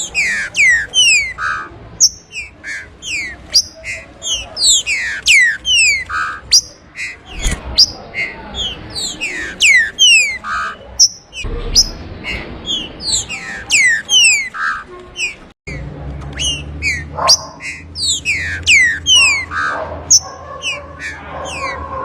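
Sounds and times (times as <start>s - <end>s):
bird singing whistled notes: 0.0s - 15.4s, 16.4s - 21.7s.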